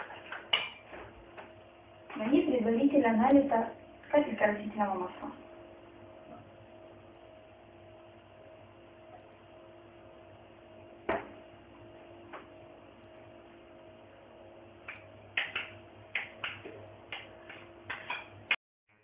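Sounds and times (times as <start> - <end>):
low electrical hum: 0.0 - 18.6.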